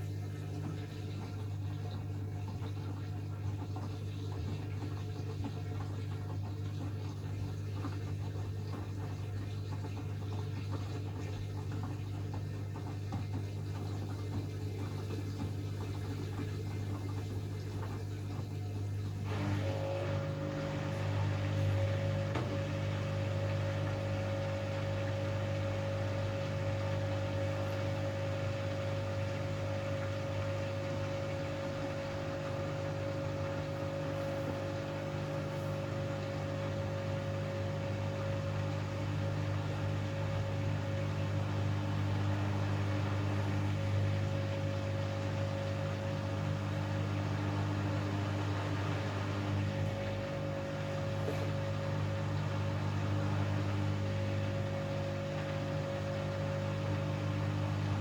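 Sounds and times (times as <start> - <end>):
washing machine humming: 0.0 - 58.0
washing machine rushing: 0.0 - 58.0.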